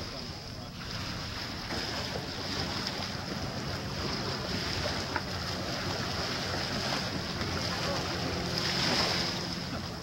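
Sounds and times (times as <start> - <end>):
small waves washing: 0.0 - 10.0.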